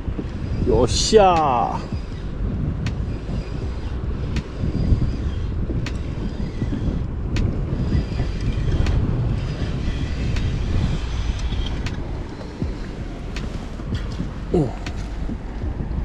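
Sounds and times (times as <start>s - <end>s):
wind buffeting microphone: 0.0s - 16.0s
sharp tick: 1.3s - 15.7s.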